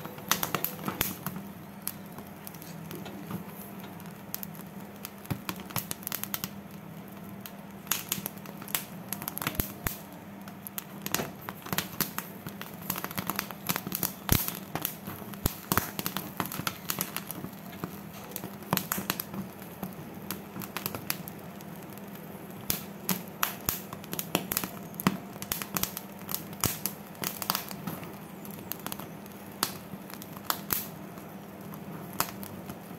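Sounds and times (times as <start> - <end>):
corn kernels popping: 0.0 - 32.9.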